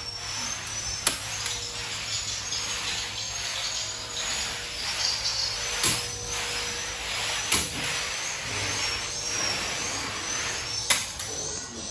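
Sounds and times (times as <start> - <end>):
faint high chirping: 0.0 - 11.9
steady machine noise: 0.0 - 11.9.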